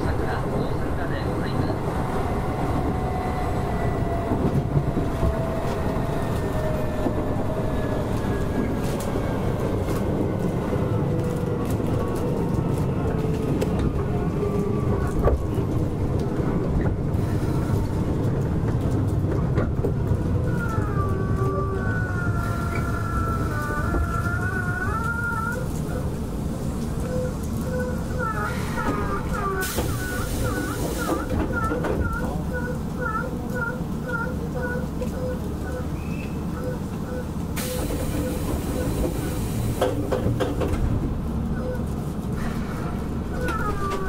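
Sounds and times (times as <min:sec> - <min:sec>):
wheels rumbling on rail: 0:00.0 - 0:44.0.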